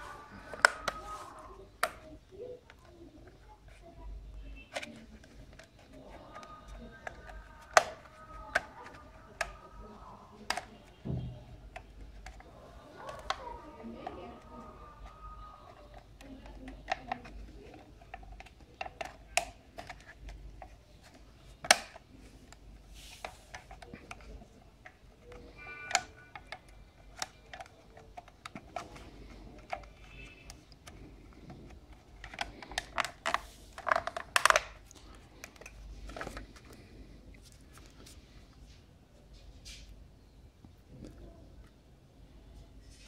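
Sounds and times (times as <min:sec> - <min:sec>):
plastic clicks and taps: 0:00.3 - 0:03.8, 0:04.7 - 0:12.4, 0:13.0 - 0:36.9.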